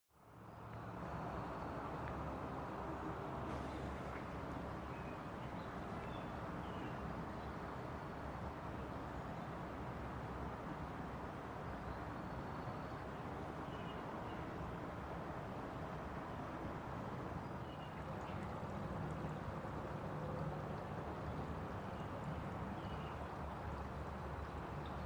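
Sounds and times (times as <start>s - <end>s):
distant traffic rumble: 0.2s - 25.0s.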